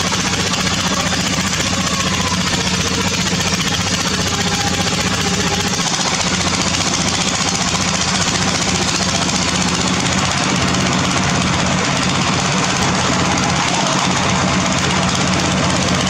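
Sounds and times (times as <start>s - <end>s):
diesel engine drone: 0.0s - 16.0s
fast even rattle: 0.0s - 16.0s.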